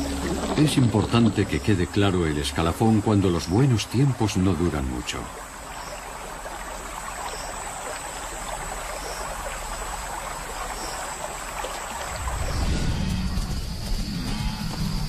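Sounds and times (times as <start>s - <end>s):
water lapping and trickling: 0.0s - 15.0s.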